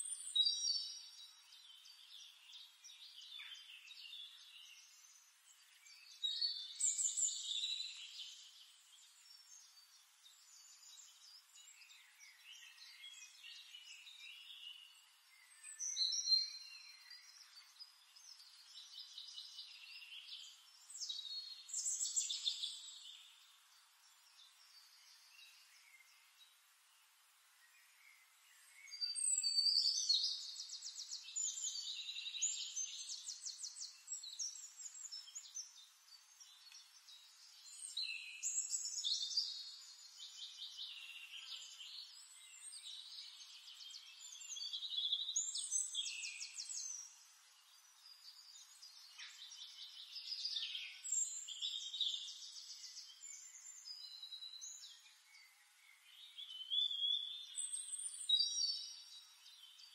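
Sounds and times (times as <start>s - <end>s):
songbird singing trills: 0.0s - 26.5s, 27.6s - 59.9s.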